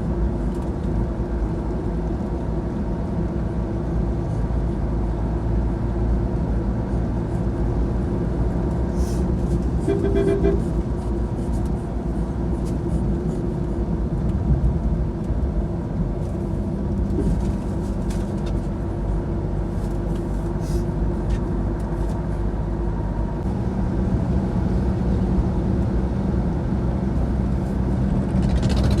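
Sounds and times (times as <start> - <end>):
road noise: 0.0 - 29.0
vehicle engine drone: 0.0 - 29.0.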